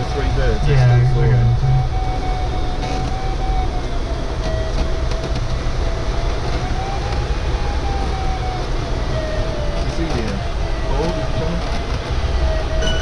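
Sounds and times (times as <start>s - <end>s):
low rumble: 0.0s - 13.0s
variometer continuous tone: 0.0s - 13.0s.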